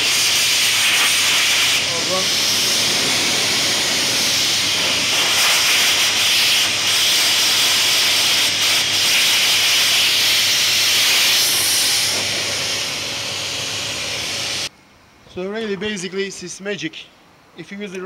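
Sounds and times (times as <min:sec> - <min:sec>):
pressure washer spraying on metal: 0:00.0 - 0:14.7.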